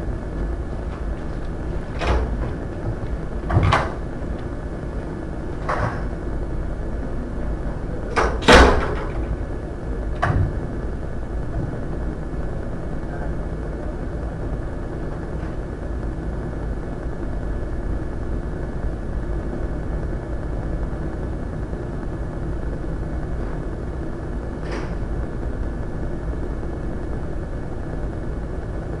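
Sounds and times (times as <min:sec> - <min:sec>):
high whine: 0:00.0 - 0:29.0
low mechanical hum: 0:00.0 - 0:29.0.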